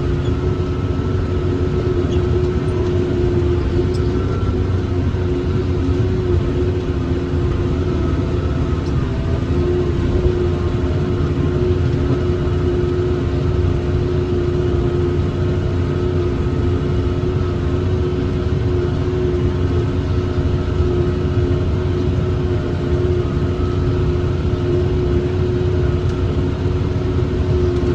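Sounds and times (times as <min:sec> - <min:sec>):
steady machine whine: 0:00.0 - 0:27.9
tractor engine running under load: 0:00.0 - 0:27.9.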